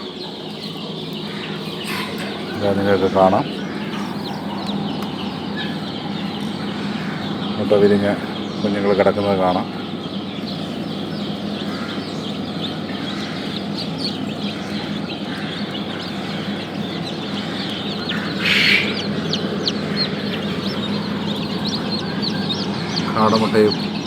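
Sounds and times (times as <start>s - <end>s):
chicks peeping: 0.0s - 24.0s
incubator hum and hiss: 0.0s - 24.0s.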